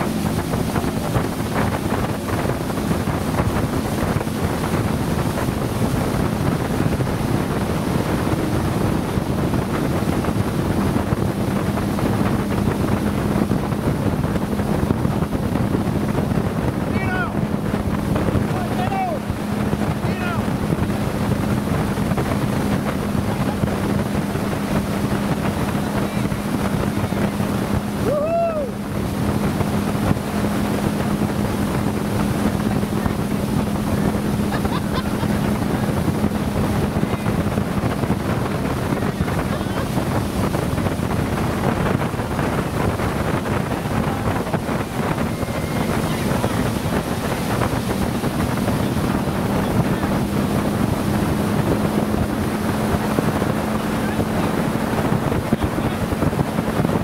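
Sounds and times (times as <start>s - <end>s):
motorboat engine running: 0.0s - 57.0s
water rushing along hull: 0.0s - 57.0s
wind buffeting microphone: 0.0s - 57.0s.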